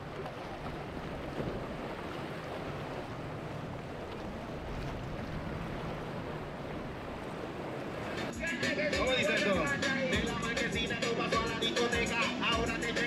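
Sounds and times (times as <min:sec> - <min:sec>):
low hum of boat engines: 0:00.0 - 0:13.0
water: 0:00.0 - 0:13.0.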